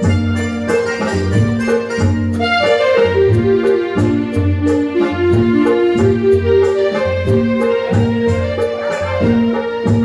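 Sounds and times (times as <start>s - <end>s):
instrumental live band music: 0.0s - 10.0s.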